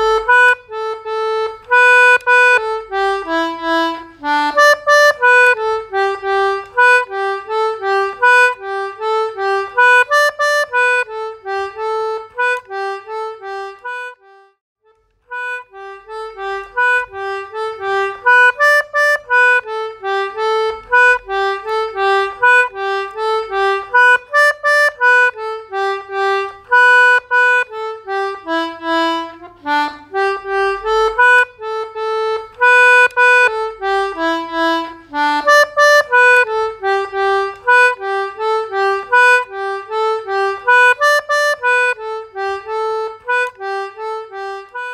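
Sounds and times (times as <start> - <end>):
quick instrumental melody: 0.0 - 14.5, 15.3 - 44.9.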